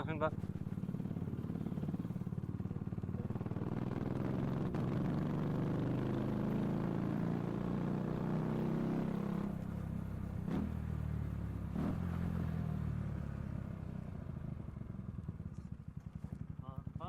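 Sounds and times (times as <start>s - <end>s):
vehicle engine running: 0.0s - 8.2s, 9.1s - 17.0s.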